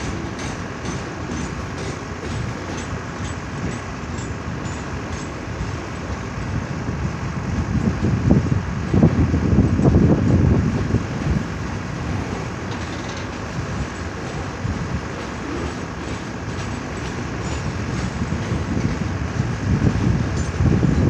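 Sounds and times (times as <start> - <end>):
train wheels rumbling and rattling: 0.0 - 21.0.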